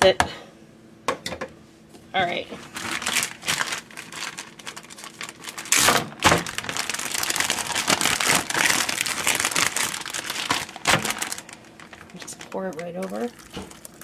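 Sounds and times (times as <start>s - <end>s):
plastic bag crinkling: 2.4s - 14.0s.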